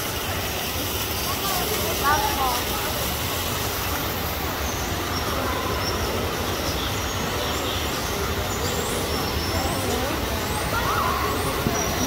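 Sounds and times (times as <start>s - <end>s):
rushing background noise: 0.0s - 12.0s.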